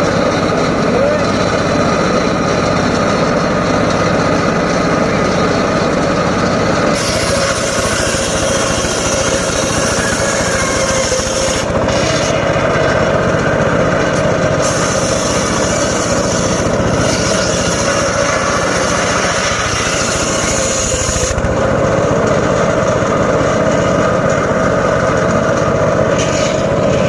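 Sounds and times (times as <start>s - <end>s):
circular saw cutting wood: 0.0s - 27.0s
engine pulse: 0.0s - 27.0s.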